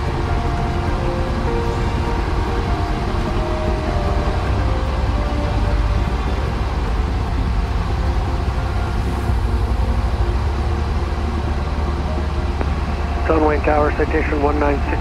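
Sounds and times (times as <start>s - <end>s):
airflow noise: 0.0s - 15.0s
propeller plane engine drone: 0.0s - 15.0s.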